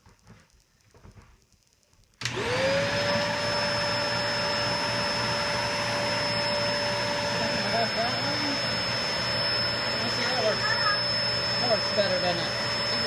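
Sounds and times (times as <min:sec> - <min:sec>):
vacuum cleaner motor whining: 0:02.2 - 0:13.0.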